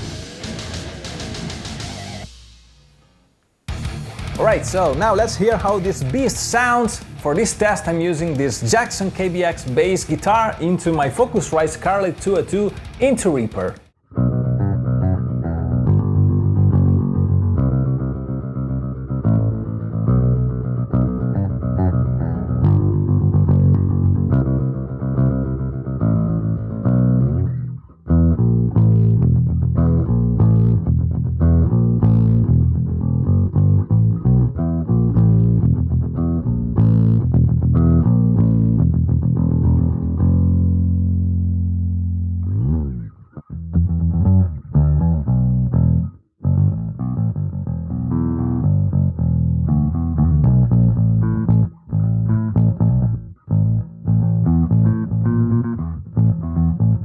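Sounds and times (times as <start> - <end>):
electric bass notes: 0.0 - 57.0.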